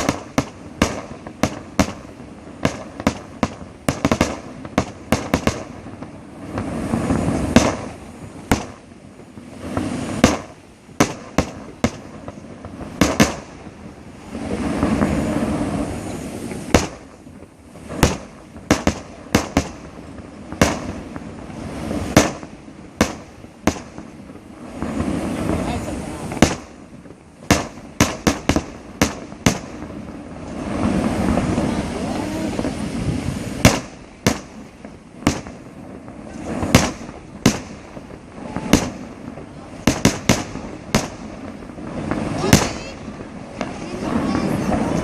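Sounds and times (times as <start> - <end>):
fireworks bangs: 0.0 - 45.0.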